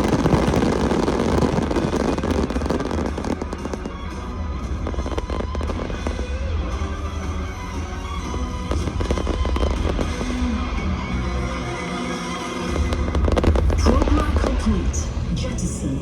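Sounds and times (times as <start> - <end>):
fireworks crackling and popping: 0.0 - 15.2
music playing: 0.0 - 16.0.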